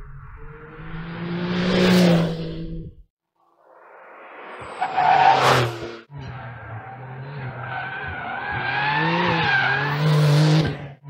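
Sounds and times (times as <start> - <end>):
car engine accelerating: 0.0 - 11.0
car passing at speed: 0.1 - 2.9, 3.6 - 10.9.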